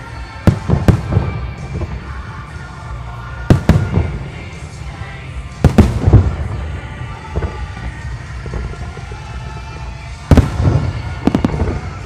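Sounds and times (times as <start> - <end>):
background music: 0.0 - 12.0
firework shells exploding: 0.5 - 2.2, 3.5 - 12.0.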